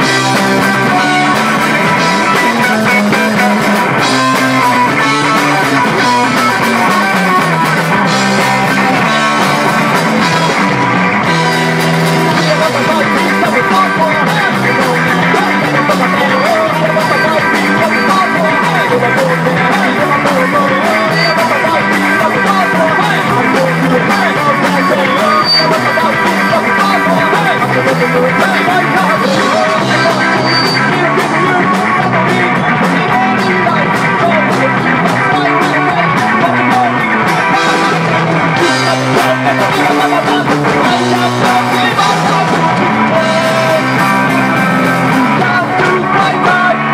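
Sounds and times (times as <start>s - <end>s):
bass guitar: 0.0s - 46.9s
drums: 0.0s - 46.9s
electric guitars: 0.0s - 46.9s
man singing: 0.0s - 46.9s.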